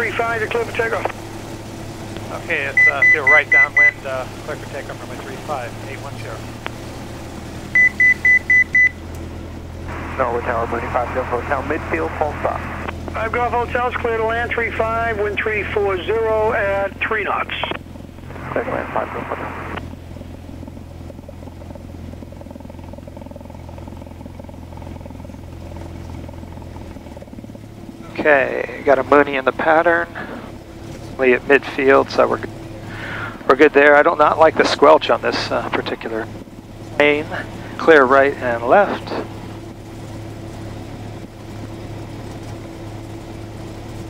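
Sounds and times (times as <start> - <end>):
aircraft engine drone: 0.0 - 44.0.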